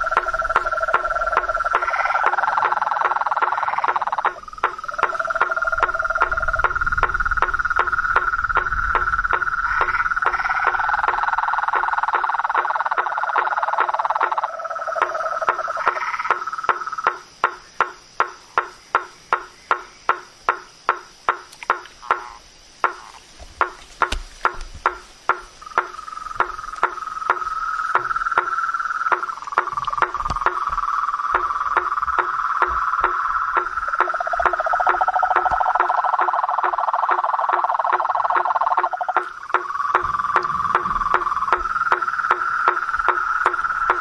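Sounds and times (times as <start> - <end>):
frogs knocking calls: 0.0 - 44.0
trilling frog chorus: 0.0 - 44.0.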